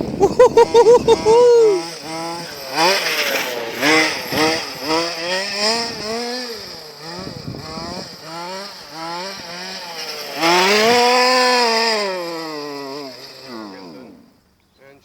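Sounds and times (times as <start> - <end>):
model car engine revving: 0.0 - 14.6.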